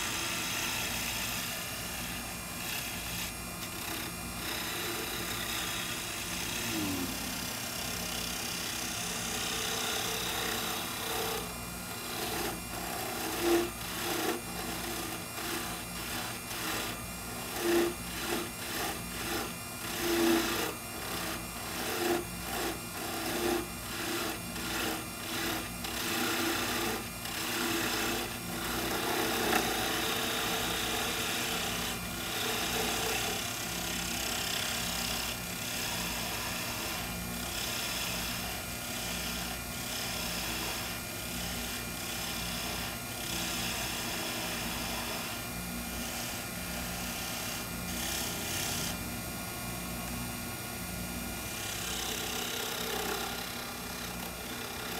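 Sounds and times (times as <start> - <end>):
lathe motor hum: 0.0 - 49.0, 51.4 - 54.9
turning tool cutting wood: 0.0 - 49.0, 50.8 - 54.9.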